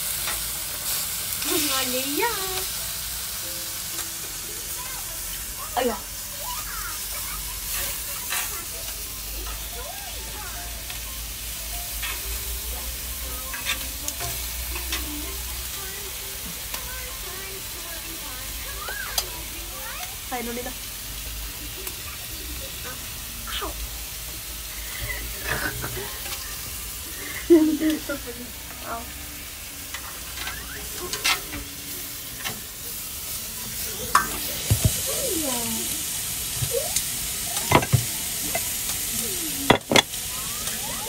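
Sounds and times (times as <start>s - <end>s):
food sizzling on a grill: 0.0s - 41.0s.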